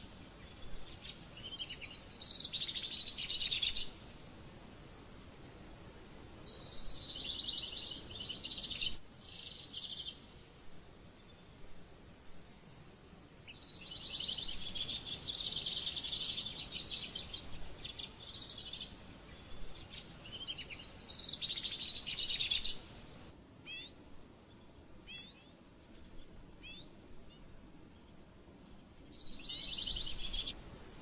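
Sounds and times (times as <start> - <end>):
small birds chirping: 0.0 - 4.3, 6.4 - 11.8, 12.6 - 30.6.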